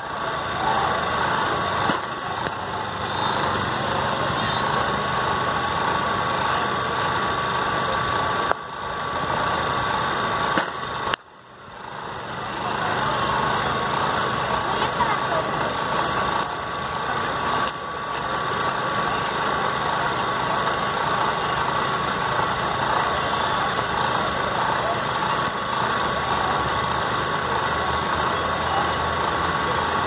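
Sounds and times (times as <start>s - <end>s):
engine-like hum with high whine: 0.0s - 30.0s.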